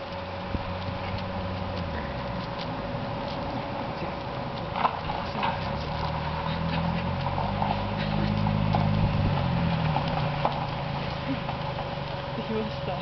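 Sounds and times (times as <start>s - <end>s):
crackles: 0.0s - 13.0s
footsteps crunching on wood chips: 0.0s - 13.0s
passing vehicle engine drone: 0.0s - 13.0s.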